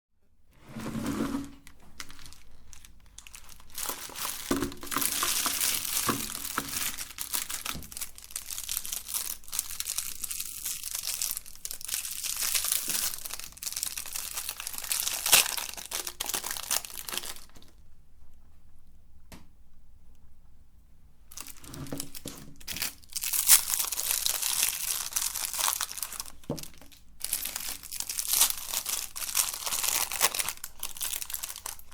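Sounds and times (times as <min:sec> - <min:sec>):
candy crunching in grinder: 0:00.9 - 0:17.8, 0:21.3 - 0:31.9.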